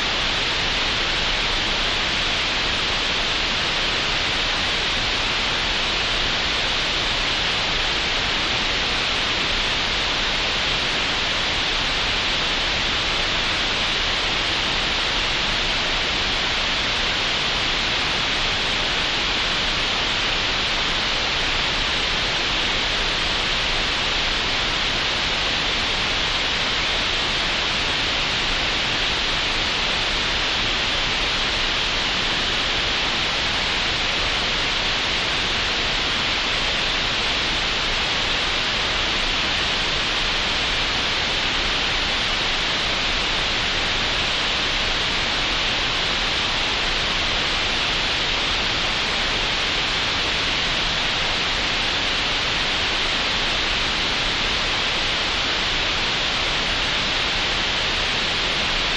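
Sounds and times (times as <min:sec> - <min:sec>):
steady green noise hiss: 0:00.0 - 0:58.9.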